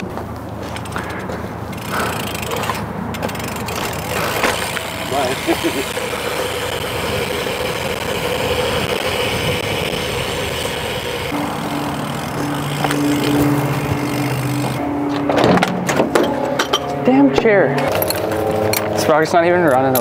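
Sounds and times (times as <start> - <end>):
engine hum: 0.0 - 20.0
street traffic noise: 0.0 - 20.0.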